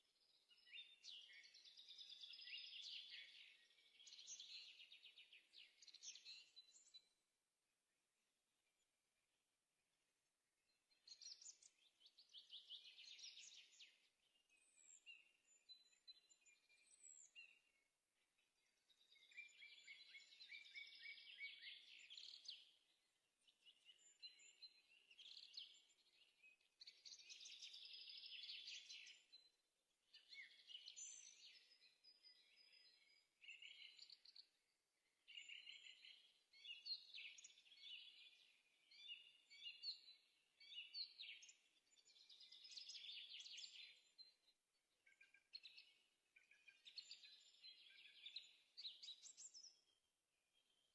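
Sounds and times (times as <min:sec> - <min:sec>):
songbird trills and chirps: 0:00.0 - 0:07.2, 0:10.7 - 0:50.9.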